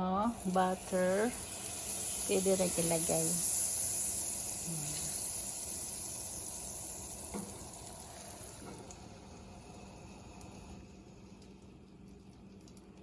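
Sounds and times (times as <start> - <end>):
plantain sizzling in frying pan: 0.0 - 10.8.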